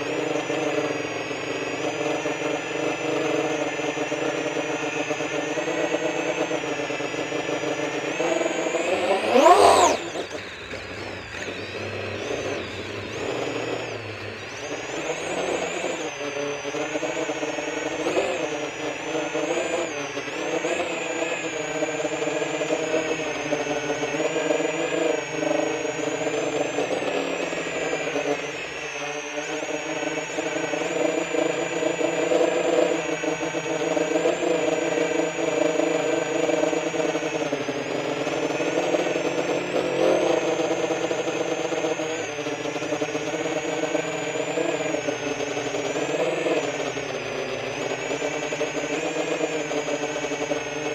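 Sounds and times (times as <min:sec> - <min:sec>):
quadcopter motors buzzing and whining: 0:00.0 - 0:50.9.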